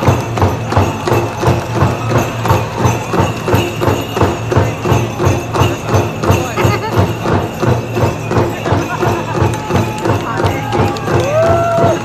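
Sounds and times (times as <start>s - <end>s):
drum beaten in steady rhythm: 0.0s - 12.0s.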